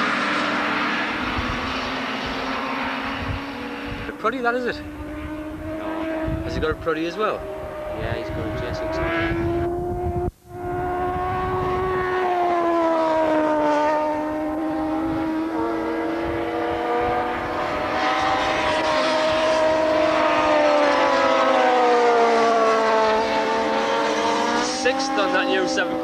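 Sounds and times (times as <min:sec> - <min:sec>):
racing motorcycle engines revving: 0:00.0 - 0:26.0.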